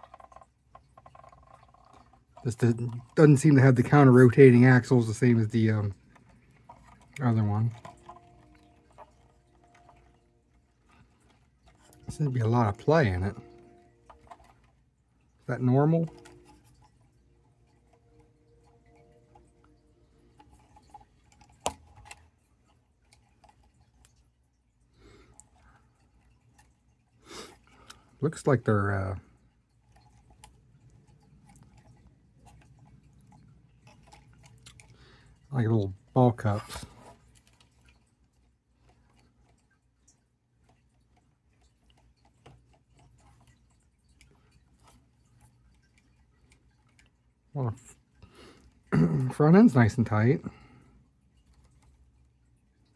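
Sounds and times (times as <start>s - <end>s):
plastic parts clicking: 0.0s - 24.3s, 29.8s - 50.0s.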